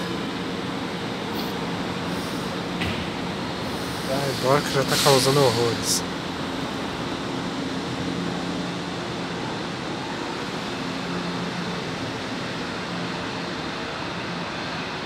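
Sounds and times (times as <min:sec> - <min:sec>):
train equipment hum and whir: 0:00.0 - 0:15.0.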